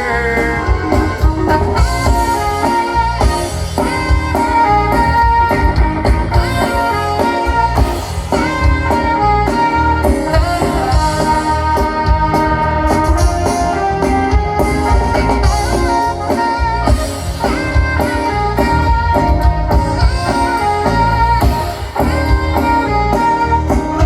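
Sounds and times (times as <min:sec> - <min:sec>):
band melody line: 0:00.0 - 0:24.0
bass: 0:00.0 - 0:24.0
drums: 0:00.0 - 0:24.0.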